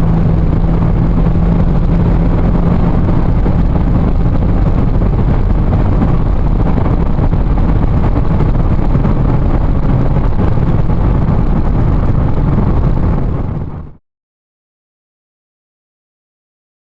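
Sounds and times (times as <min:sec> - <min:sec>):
car engine drone: 0:00.0 - 0:14.0
tyre and wind noise: 0:00.0 - 0:14.0.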